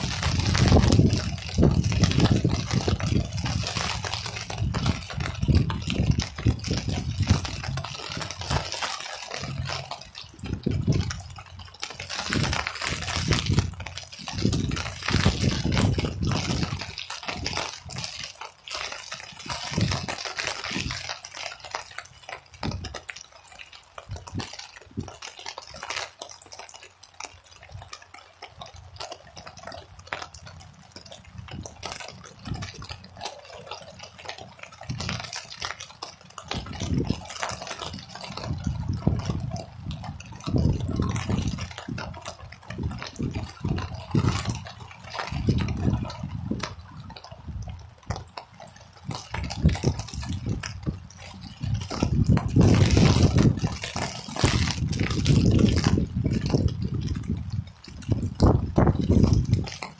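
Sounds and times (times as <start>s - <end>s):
wind buffeting microphone: 0.0s - 26.0s, 27.5s - 59.9s
steady rain: 0.0s - 59.9s.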